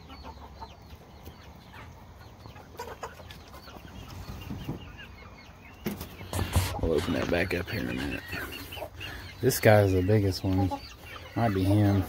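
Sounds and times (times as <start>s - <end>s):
young chickens clucking and chirping: 0.0s - 12.0s.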